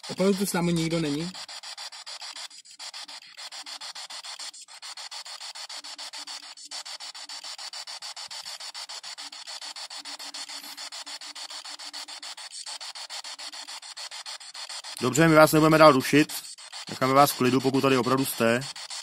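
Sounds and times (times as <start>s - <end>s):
stuttering radio static: 0.0s - 19.0s.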